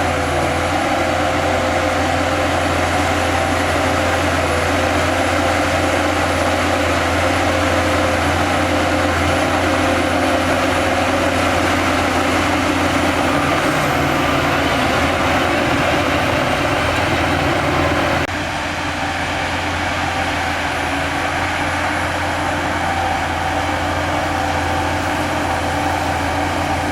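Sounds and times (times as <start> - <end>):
diesel machinery engine hum: 0.0 - 26.9.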